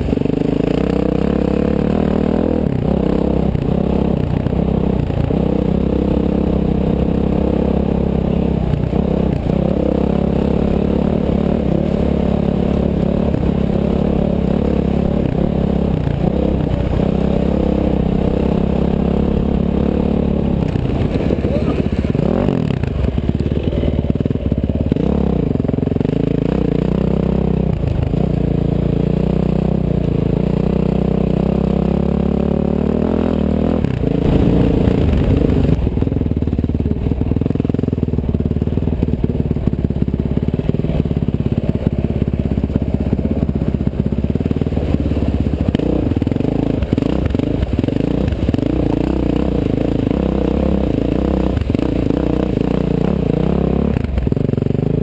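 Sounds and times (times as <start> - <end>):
clatter: 0.0 - 32.4, 33.7 - 55.0
dirt bike engine revving: 0.0 - 36.3, 39.2 - 55.0
bike splashing through mud: 8.1 - 55.0.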